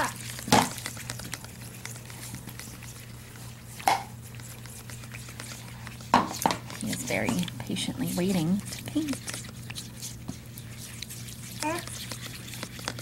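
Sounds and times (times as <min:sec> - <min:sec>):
spoon stirring in bowl: 0:00.0 - 0:13.0.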